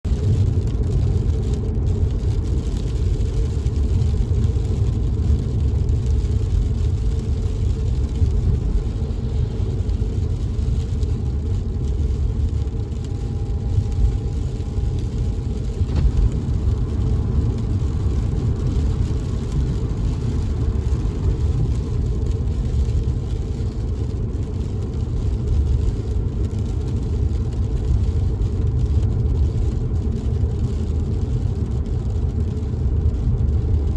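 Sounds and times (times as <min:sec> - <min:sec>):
car engine and road rumble: 0:00.0 - 0:33.9
rain on car roof: 0:00.1 - 0:33.9.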